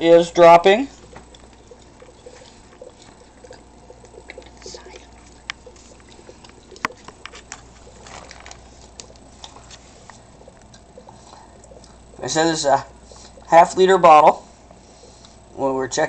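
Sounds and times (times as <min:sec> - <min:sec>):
gas bubbling into water: 0:01.0 - 0:15.5.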